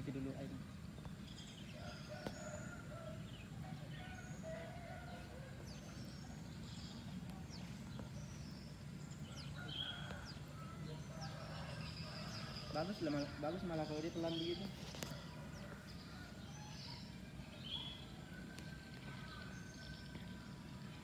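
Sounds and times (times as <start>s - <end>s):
birds chirping: 0.0s - 21.0s
low outdoor hum: 0.0s - 21.0s.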